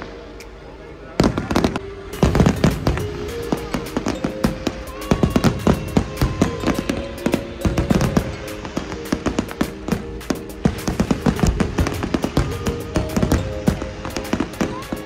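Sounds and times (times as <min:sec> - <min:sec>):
steady musical tones: 0:00.0 - 0:15.0
fireworks bangs and crackles: 0:01.1 - 0:15.0.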